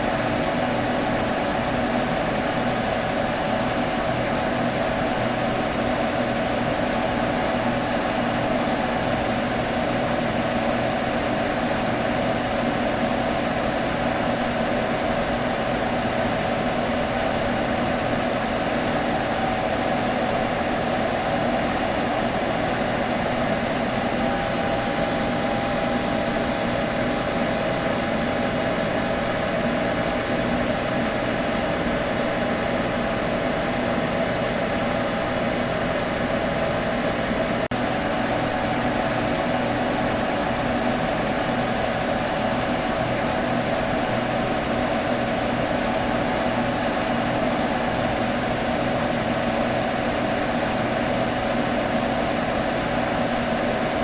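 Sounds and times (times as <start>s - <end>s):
computer fan humming: 0.0s - 54.0s.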